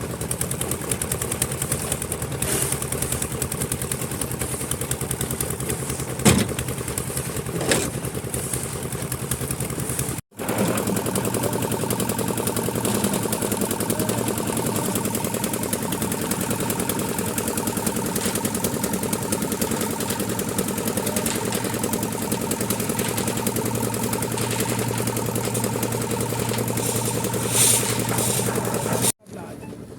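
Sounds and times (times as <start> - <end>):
concrete mixer engine running: 0.0 - 29.9.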